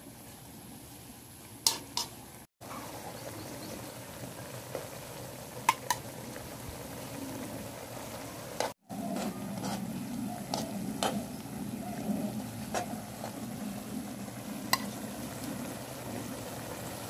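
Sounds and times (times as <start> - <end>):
food simmering and sizzling in pot: 0.0 - 17.0.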